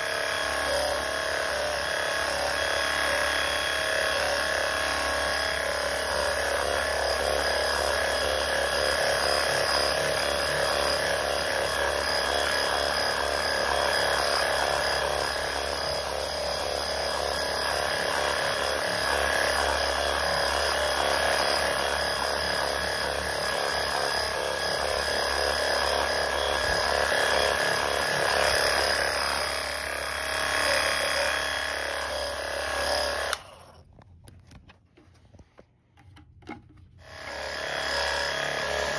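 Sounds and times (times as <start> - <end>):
sprayer pump motor whine: 0.0 - 34.6.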